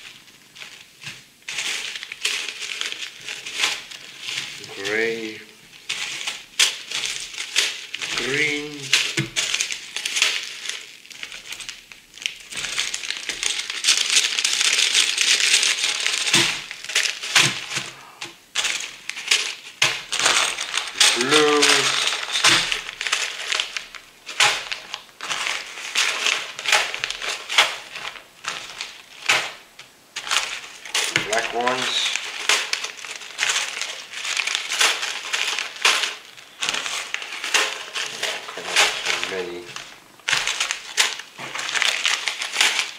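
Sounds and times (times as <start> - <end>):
plastic bags crinkling: 0.0 - 42.9
plastic bricks clattering: 0.0 - 42.9.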